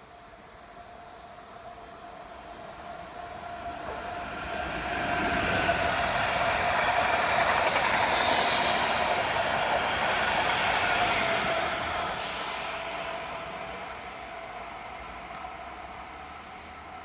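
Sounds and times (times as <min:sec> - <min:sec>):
steady train whine: 0:00.0 - 0:17.0
train wheels rushing on rail: 0:00.0 - 0:17.0.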